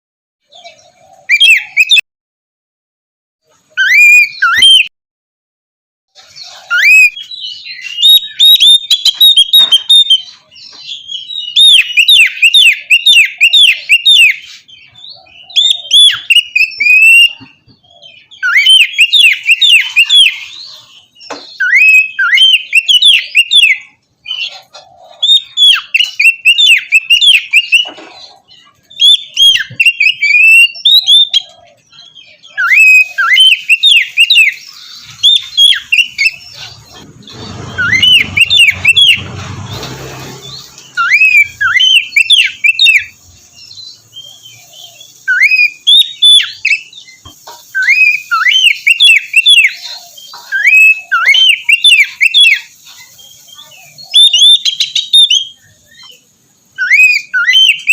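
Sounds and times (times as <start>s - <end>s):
bird singing whistled phrases: 0.8s - 2.0s, 3.8s - 4.9s, 6.5s - 24.5s, 25.2s - 27.9s, 28.9s - 36.6s, 37.3s - 39.3s, 40.9s - 57.9s.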